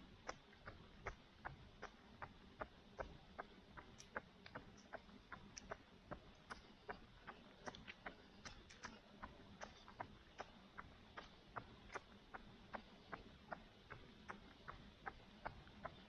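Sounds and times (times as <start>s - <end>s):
light ticks: 0.0s - 16.0s.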